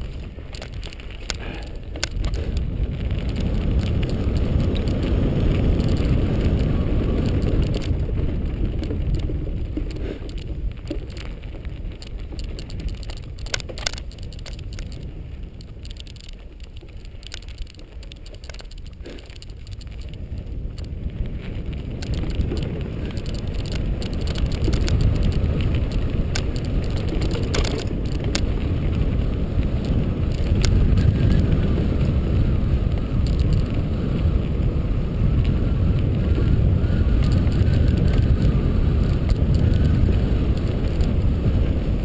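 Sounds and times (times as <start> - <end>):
bike clicks and rattles: 0.0 - 42.0
tyre noise on trail: 0.0 - 42.0
wind buffeting microphone: 0.0 - 42.0.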